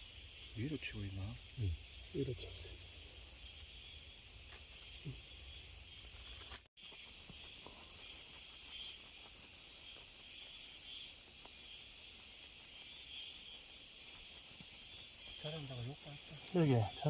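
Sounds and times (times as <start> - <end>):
insects chorus: 0.0 - 17.0.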